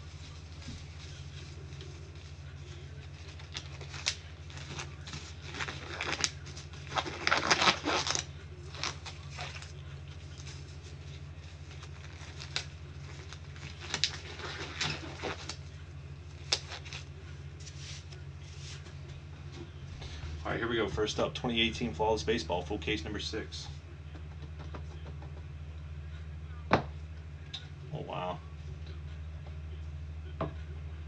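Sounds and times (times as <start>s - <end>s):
rustling and handling noise: 0.0s - 25.6s
low electrical hum: 0.0s - 31.0s.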